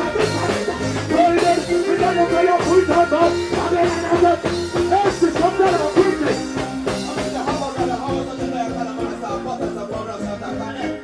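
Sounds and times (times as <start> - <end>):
live reggae music: 0.0 - 11.0
person singing: 0.0 - 11.0.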